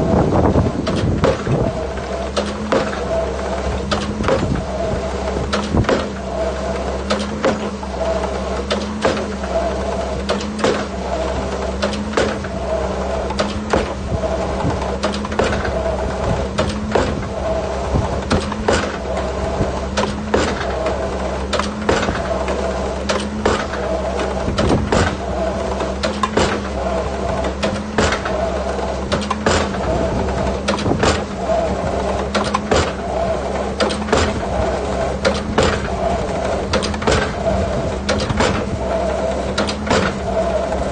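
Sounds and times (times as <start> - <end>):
excavator engine running: 0.0 - 40.9
piling knocks and clanks: 0.8 - 40.9.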